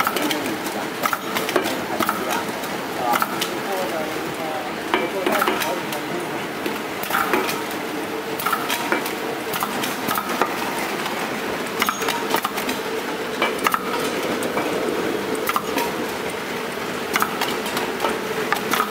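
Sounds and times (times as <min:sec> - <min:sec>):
sorting machine humming: 0:00.0 - 0:18.9.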